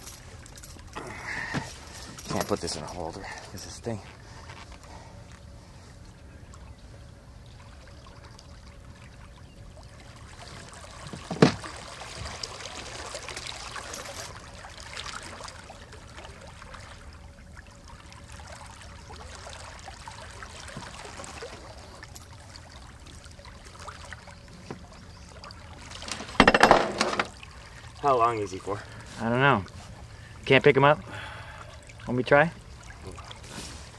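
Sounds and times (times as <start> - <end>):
faint steady hum: 0.0 - 33.9
water sloshing and splashing: 0.0 - 33.9.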